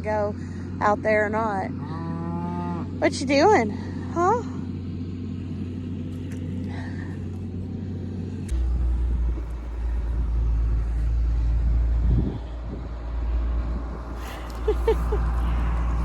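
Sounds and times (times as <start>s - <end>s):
heavy low rumble: 0.0s - 16.0s
tractor engine running: 0.0s - 16.0s.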